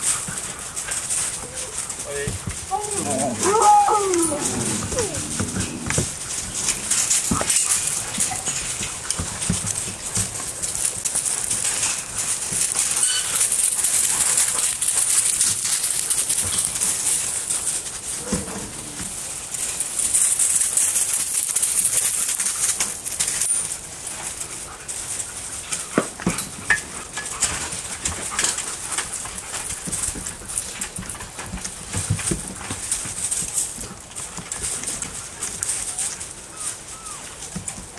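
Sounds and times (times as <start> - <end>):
dog paws crunching on gravel: 0.0 - 37.9.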